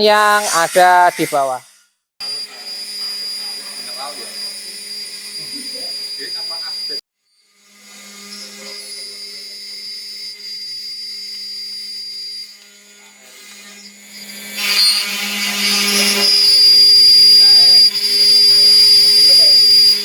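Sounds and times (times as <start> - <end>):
gritty cutting noise: 0.0 - 20.0
router spindle whining: 2.2 - 20.0.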